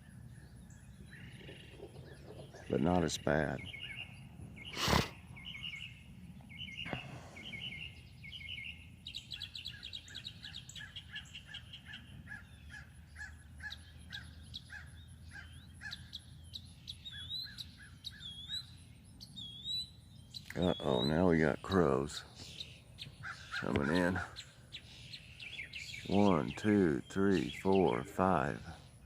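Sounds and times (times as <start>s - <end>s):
songbirds singing and chirping: 0.0s - 29.0s.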